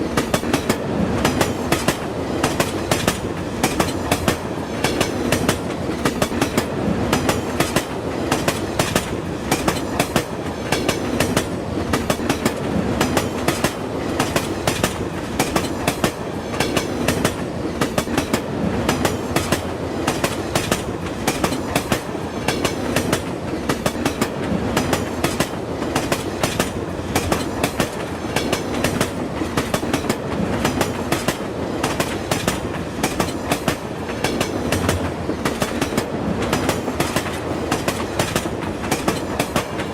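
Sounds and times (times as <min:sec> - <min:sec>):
train rumble: 0:00.0 - 0:39.9
train wheels clattering clickety-clack: 0:00.0 - 0:39.9.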